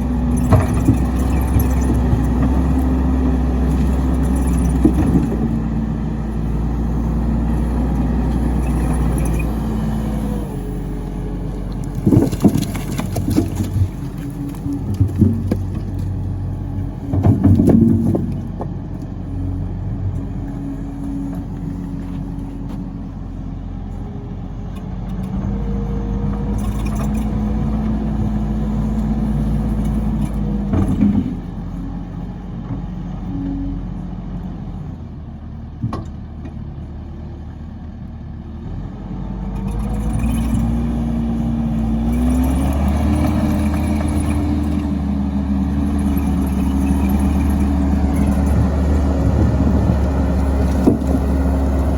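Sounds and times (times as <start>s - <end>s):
log splitter engine running: 0.0s - 51.9s.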